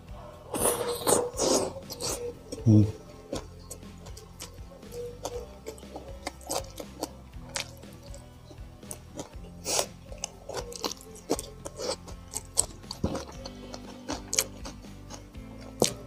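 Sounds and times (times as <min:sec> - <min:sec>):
background music: 0:00.0 - 0:16.0
man chewing food: 0:00.0 - 0:16.0.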